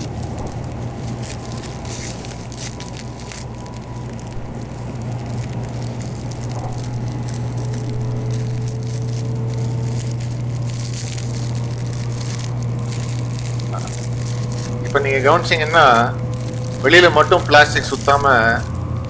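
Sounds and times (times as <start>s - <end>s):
low rumble of train cabin: 0.0s - 19.0s
plastic wrapper crinkling: 0.0s - 19.0s.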